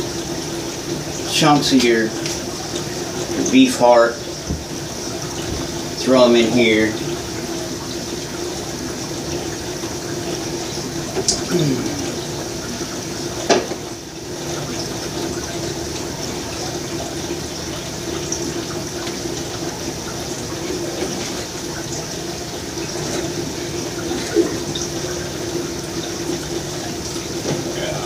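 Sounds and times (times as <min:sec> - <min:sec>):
trickling splashing water: 0:00.0 - 0:28.0.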